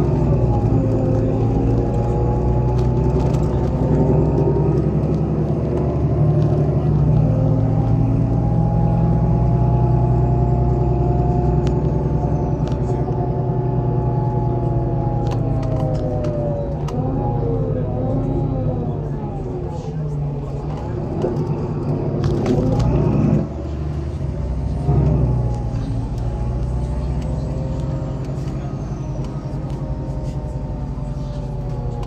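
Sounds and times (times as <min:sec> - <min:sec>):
bus engine hum: 0:00.0 - 0:32.0.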